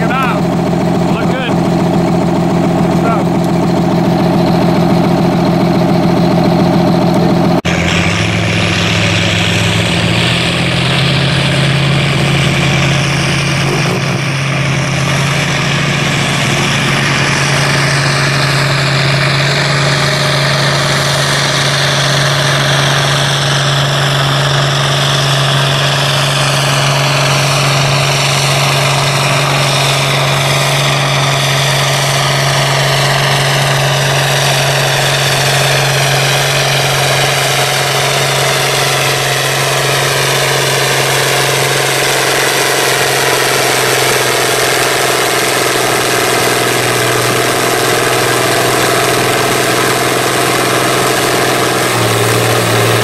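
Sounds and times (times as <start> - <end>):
high whine falling in pitch: 0.0 - 53.0
tractor diesel engine at full power: 0.0 - 53.0
tractor engine idling: 0.0 - 53.0.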